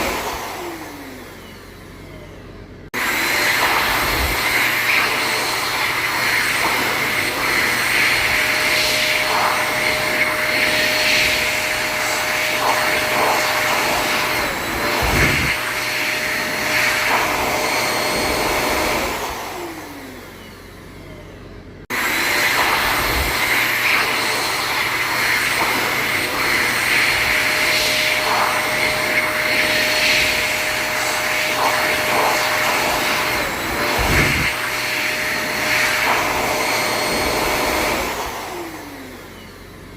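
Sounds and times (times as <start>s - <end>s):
electric hand dryer blowing: 0.0s - 2.1s, 3.0s - 21.0s, 21.9s - 39.9s.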